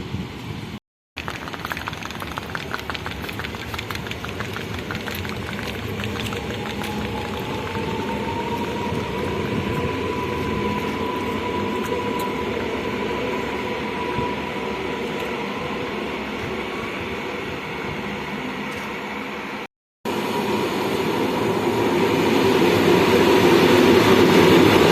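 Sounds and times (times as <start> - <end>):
train wheels rumbling on rail: 2.2 - 24.9.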